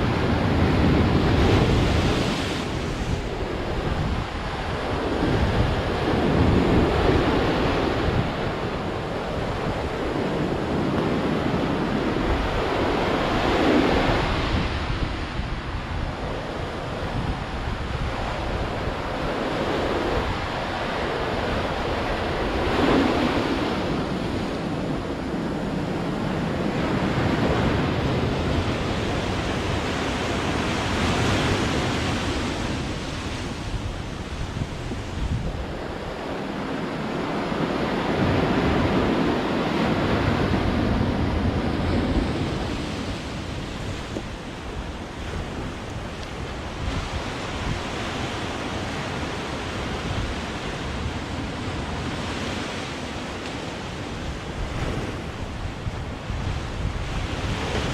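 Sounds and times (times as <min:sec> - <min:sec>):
sea waves breaking on shore: 0:00.0 - 0:57.9.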